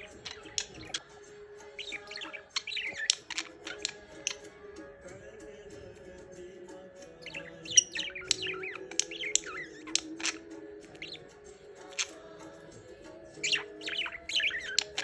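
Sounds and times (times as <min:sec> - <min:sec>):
budgerigars chirping and warbling: 0:00.0 - 0:05.0, 0:06.8 - 0:15.0.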